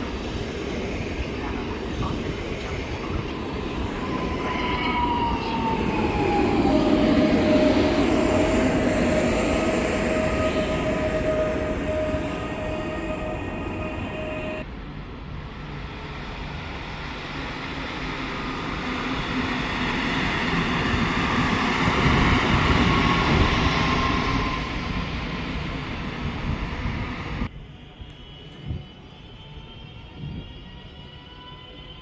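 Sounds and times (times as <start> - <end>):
train passing: 0.0 - 29.9.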